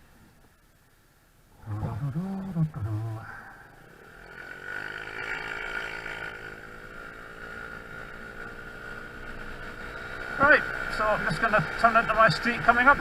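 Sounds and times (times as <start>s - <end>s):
scooter engine accelerating: 1.7s - 13.0s.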